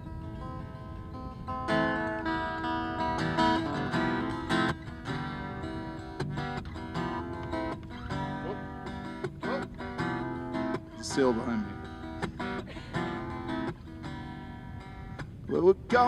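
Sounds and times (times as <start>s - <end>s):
acoustic guitar strummed chords: 0.0s - 16.0s.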